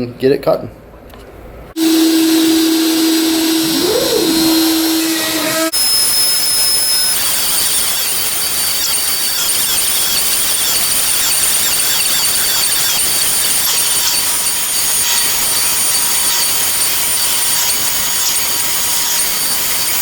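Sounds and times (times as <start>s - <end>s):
cnc router cutting: 1.8s - 20.0s.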